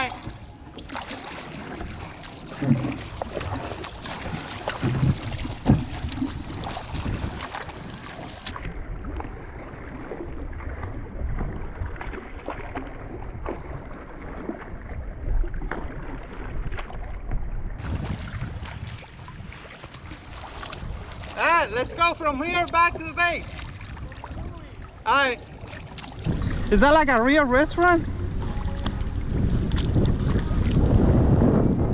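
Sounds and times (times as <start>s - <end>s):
kayak paddle splashing: 0.0s - 31.9s
wind rumbling on microphone: 0.0s - 31.9s.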